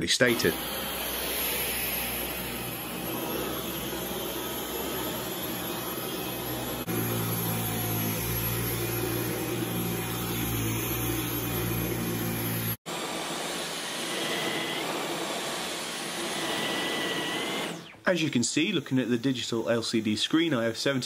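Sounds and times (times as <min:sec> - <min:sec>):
vacuum cleaner on carpet: 0:00.2 - 0:19.8.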